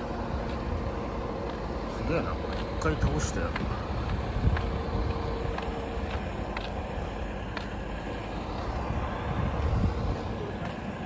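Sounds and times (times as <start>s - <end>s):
diesel truck engines running: 0.0s - 11.0s
faint steady whine: 0.0s - 11.0s.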